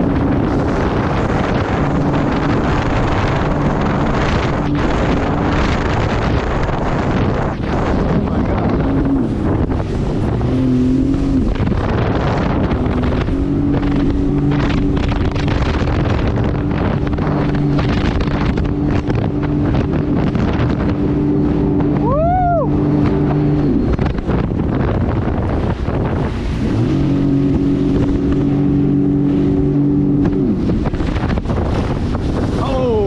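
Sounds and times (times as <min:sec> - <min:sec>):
watercraft engine running: 0:00.0 - 0:33.0
wind noise on microphone: 0:00.0 - 0:33.0.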